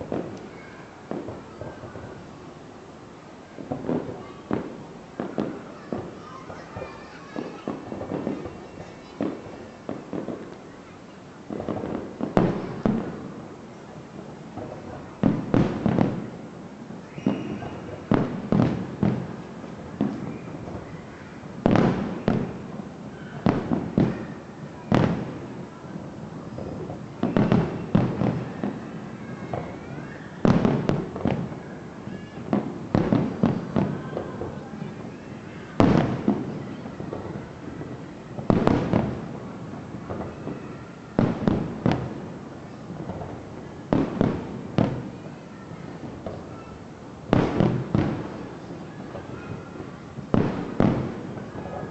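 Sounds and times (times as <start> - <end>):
fireworks bursting: 0.0 - 51.9.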